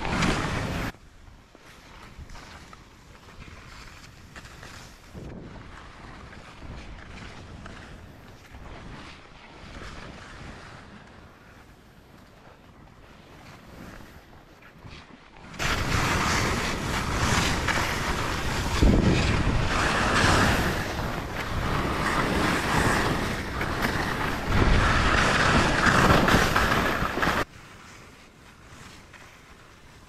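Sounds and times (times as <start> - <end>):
skis sliding through snow: 0.0 - 30.0
wind on microphone: 3.3 - 27.6.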